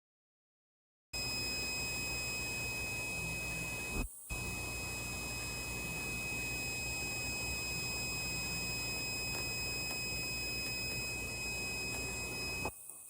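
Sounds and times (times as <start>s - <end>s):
high-pitched buzzer tone: 1.2s - 12.8s.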